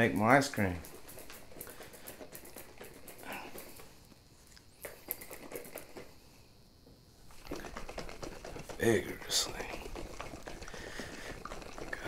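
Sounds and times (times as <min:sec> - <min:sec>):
cream shaken in plastic bottle: 0:00.0 - 0:03.9, 0:04.8 - 0:06.2, 0:07.3 - 0:12.0.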